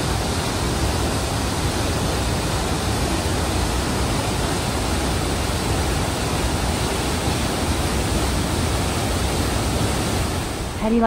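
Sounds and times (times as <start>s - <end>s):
water rushing down rocky cascade: 0.0s - 10.8s.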